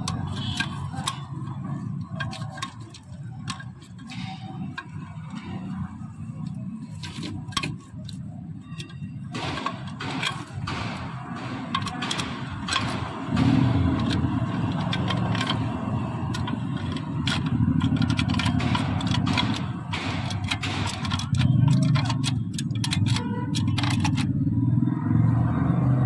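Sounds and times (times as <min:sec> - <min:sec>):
metallic clicks and scraping: 0:00.0 - 0:24.5.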